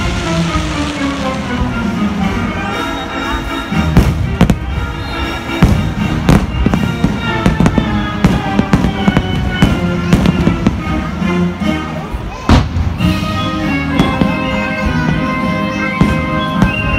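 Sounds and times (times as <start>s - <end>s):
fireworks bursting: 0.0s - 16.9s
fireworks show music: 0.0s - 16.9s.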